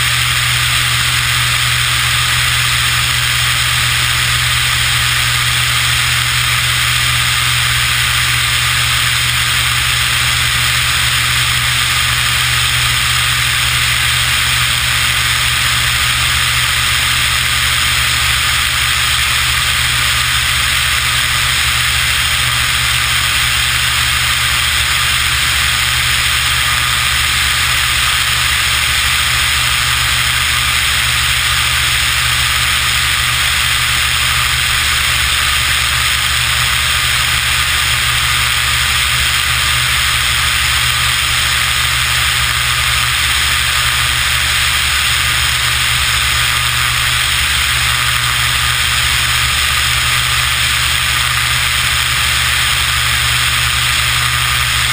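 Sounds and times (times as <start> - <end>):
airplane piston engine and propeller drone: 0.0 - 54.9.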